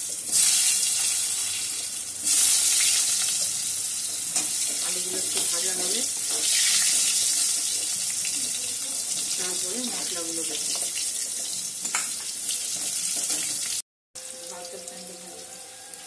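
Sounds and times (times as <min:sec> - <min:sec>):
potatoes sizzling in hot oil: 0:00.0 - 0:13.8.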